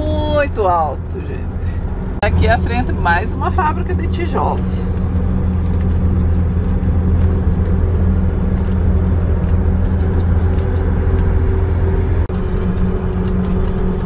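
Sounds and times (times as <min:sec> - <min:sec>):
engine droning: 0:00.0 - 0:14.0
road noise: 0:00.0 - 0:14.0.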